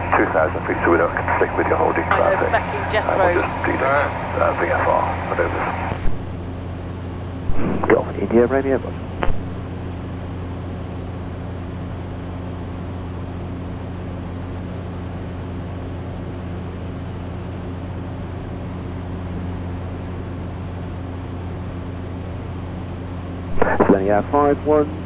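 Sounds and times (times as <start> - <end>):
light aircraft engine droning: 0.0 - 25.0.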